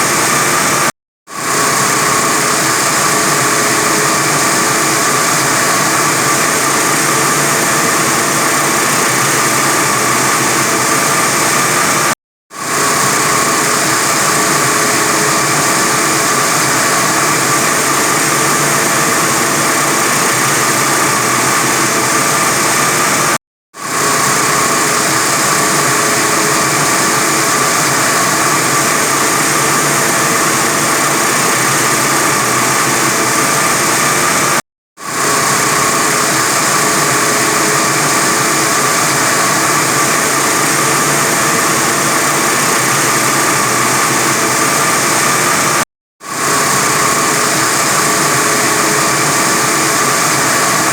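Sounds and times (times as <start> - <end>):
wire saw cutting concrete: 0.0 - 50.9.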